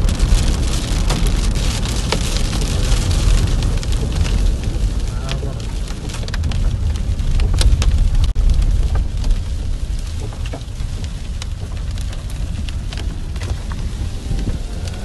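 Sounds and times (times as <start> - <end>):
car rumbling on wet road: 0.0 - 15.0
rain and hail tapping on car: 0.0 - 15.0.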